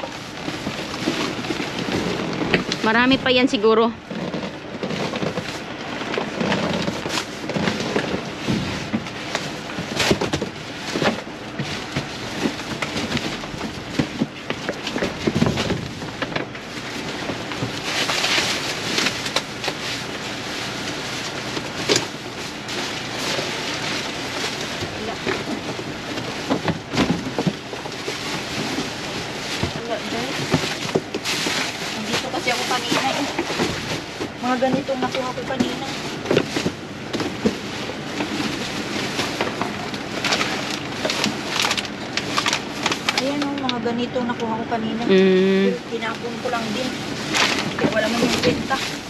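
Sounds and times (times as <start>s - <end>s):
plastic bags crinkling: 0.0s - 44.0s, 45.0s - 49.0s.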